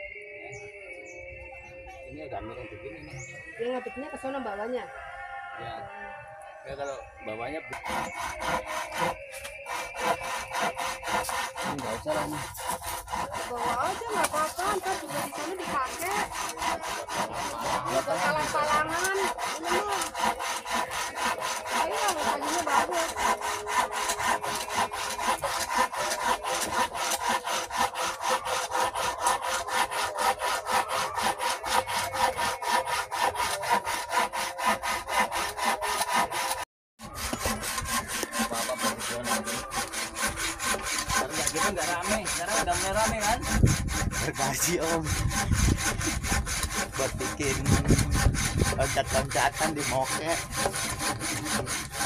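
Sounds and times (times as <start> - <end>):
hand saw cutting wood: 7.6 - 52.0.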